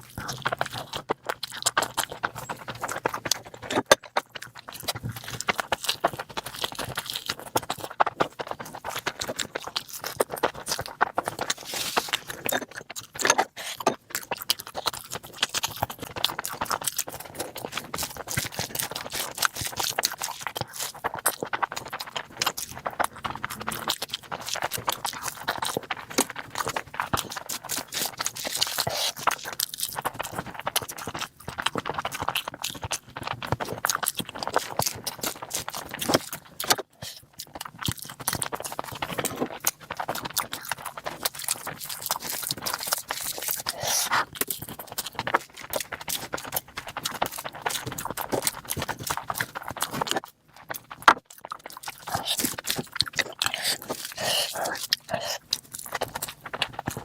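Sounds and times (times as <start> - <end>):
close chewing and lip-smacking: 0.0 - 57.0.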